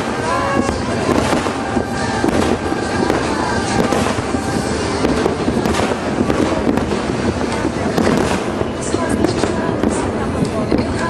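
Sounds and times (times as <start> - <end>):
firework shells bursting: 0.0 - 11.0
fireworks crackling: 0.0 - 11.0.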